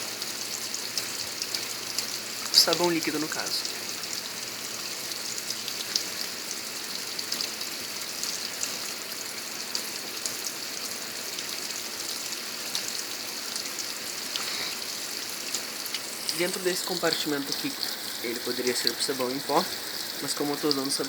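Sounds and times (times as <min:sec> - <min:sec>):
washing machine water spraying: 0:00.0 - 0:21.0
water splashes and drips: 0:00.0 - 0:21.0.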